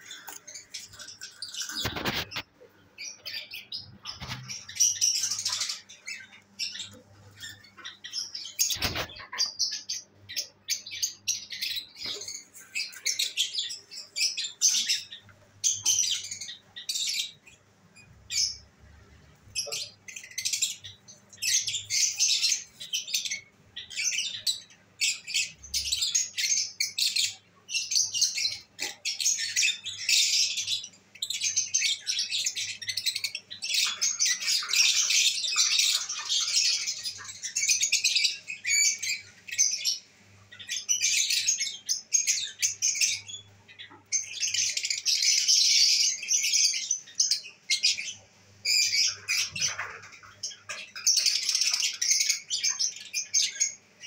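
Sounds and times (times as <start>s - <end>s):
lovebirds chirping and squawking: 0.0s - 54.0s.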